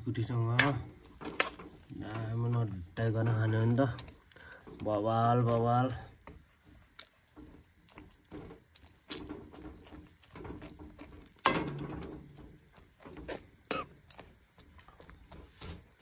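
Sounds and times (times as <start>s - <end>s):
chewing and crunching food: 3.1s - 16.0s.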